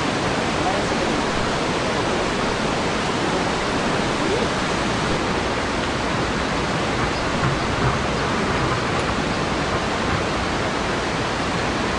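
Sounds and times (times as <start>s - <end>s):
river rushing: 0.0s - 11.9s.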